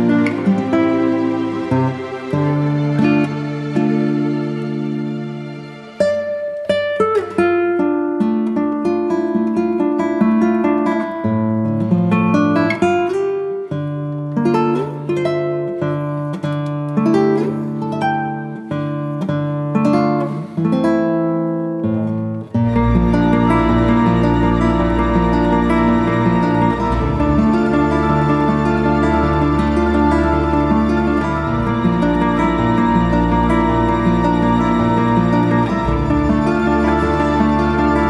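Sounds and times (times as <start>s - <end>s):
acoustic guitar melody: 0.0s - 38.0s.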